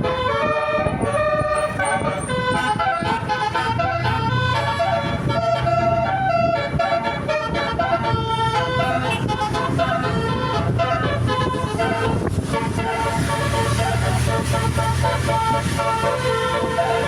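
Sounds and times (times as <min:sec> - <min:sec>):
bus engine humming: 0:00.0 - 0:17.0
multi-tone bus horn tune: 0:00.0 - 0:17.0.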